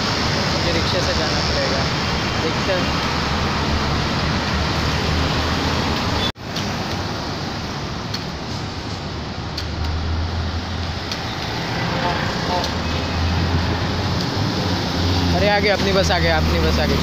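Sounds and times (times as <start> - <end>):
hiss of passing vehicles: 0.0 - 17.0.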